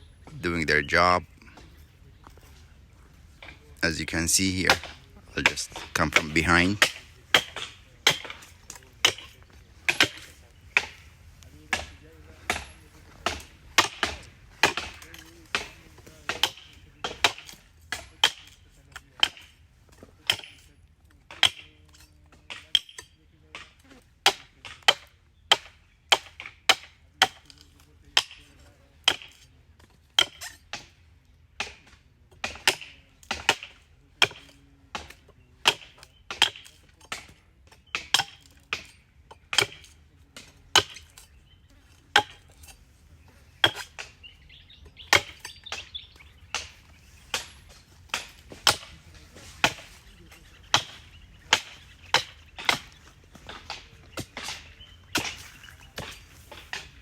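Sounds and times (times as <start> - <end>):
blade chopping woody fronds: 3.2 - 57.0.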